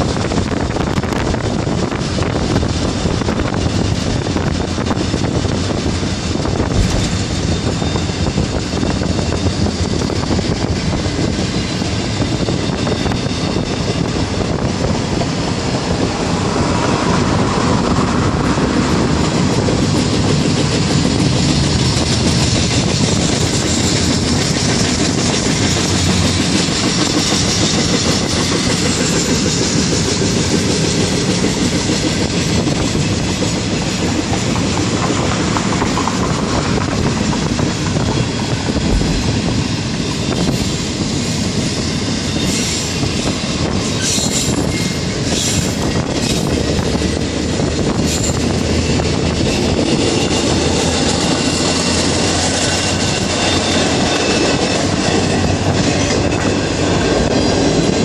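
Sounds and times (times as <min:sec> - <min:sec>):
train wheels rolling on rail: 0:00.0 - 0:58.0.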